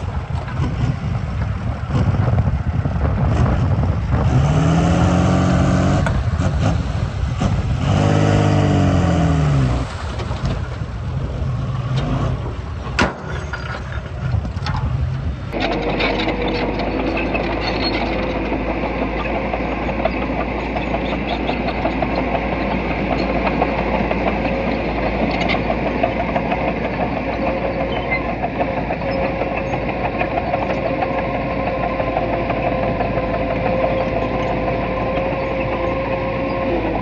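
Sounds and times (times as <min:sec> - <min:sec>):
diesel engine running: 0:00.0 - 0:37.0
steady whine: 0:00.0 - 0:37.0.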